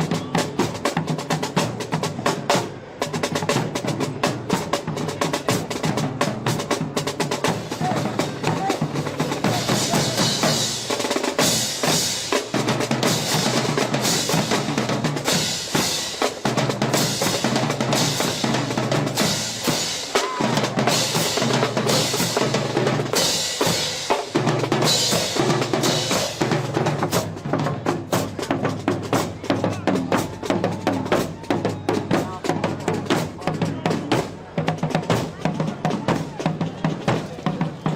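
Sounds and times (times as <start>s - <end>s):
snare and bass drums: 0.0s - 37.9s.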